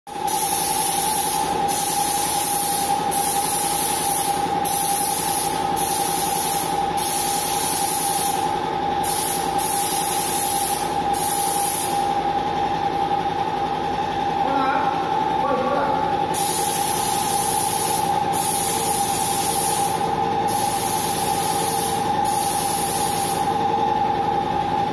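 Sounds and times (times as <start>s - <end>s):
air compressor running: 0.1s - 24.9s.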